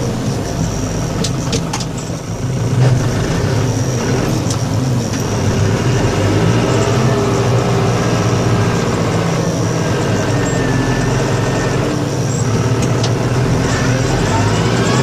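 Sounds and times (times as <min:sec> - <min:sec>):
vehicle engine running steadily: 0:00.0 - 0:15.0.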